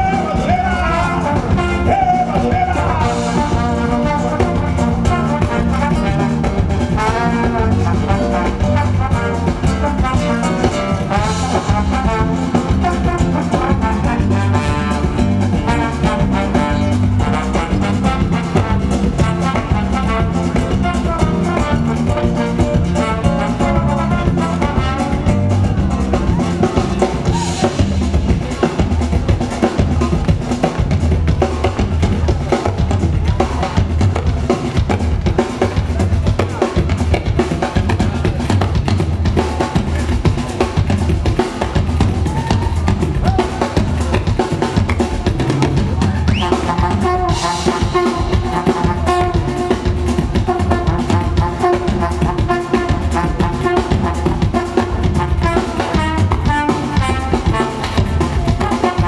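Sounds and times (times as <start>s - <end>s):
drum rimshots and rolls: 0.0s - 59.0s
samba jazz band playing: 0.0s - 59.0s.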